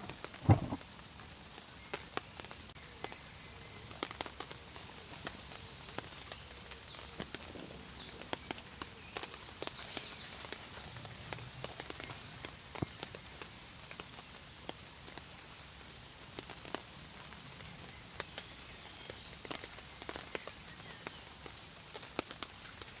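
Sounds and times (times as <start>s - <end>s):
rain falling: 0.0s - 23.0s
raindrops ticking on hard surface: 0.0s - 23.0s.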